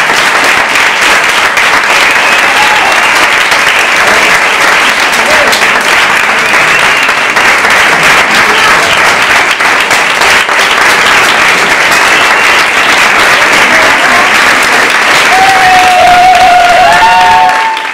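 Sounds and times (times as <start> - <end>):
crowd applause: 0.0 - 17.9.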